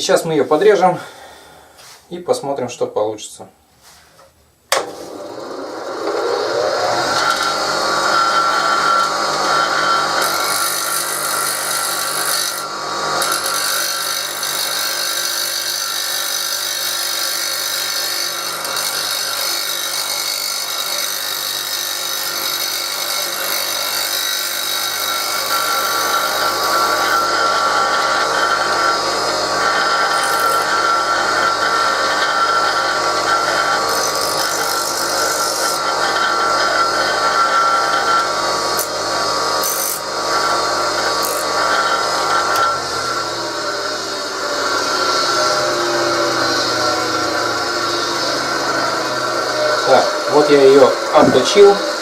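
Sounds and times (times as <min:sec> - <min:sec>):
bench grinder grinding metal: 0:04.7 - 0:52.0.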